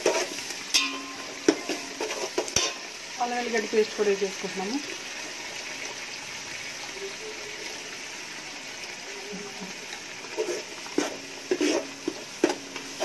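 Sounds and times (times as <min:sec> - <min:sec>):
spices sizzling in butter: 0:00.0 - 0:13.0.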